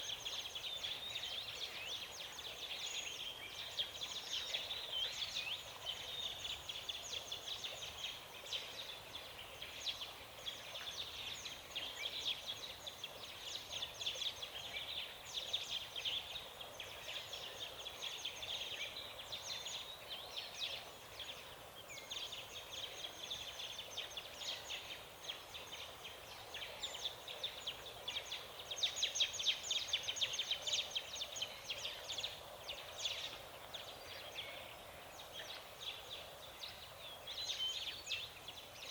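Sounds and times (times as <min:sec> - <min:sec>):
faint low hiss: 0:00.0 - 0:38.9.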